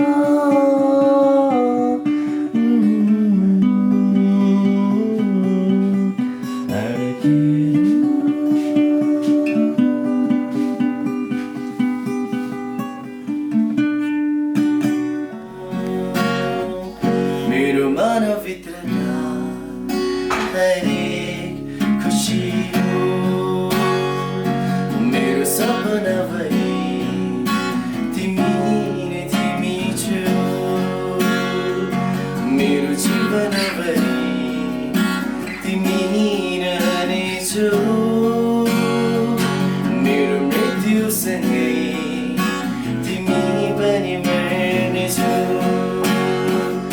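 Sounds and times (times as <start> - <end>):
person singing: 0.0 - 13.2, 14.8 - 46.9
acoustic guitar strumming: 0.0 - 46.9.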